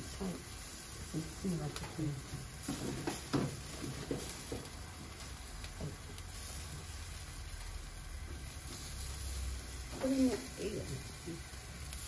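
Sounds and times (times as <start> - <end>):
faint sizzling of skewers: 0.0 - 12.0
gas grill rumble and hiss: 0.0 - 12.0.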